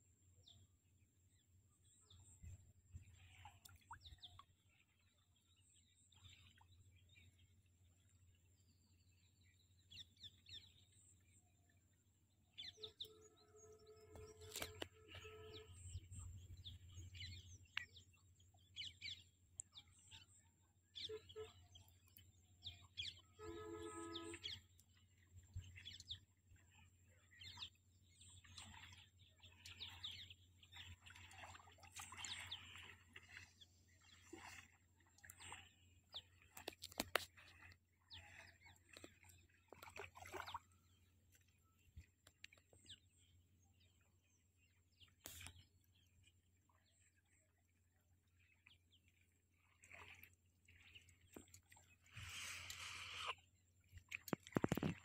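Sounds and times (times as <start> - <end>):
faint birds chirping: 0.3 - 55.0.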